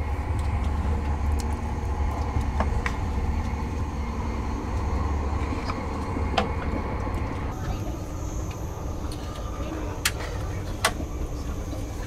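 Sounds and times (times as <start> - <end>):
train rumble from inside: 0.0 - 12.0.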